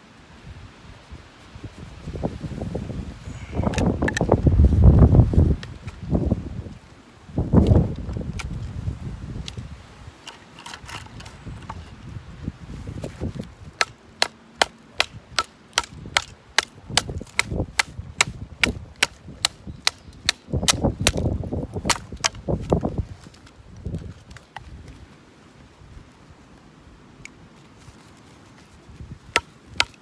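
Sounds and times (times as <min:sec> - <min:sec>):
wind rumble on microphone: 0:00.2 - 0:10.2, 0:10.8 - 0:13.8, 0:15.1 - 0:27.0, 0:28.7 - 0:29.8.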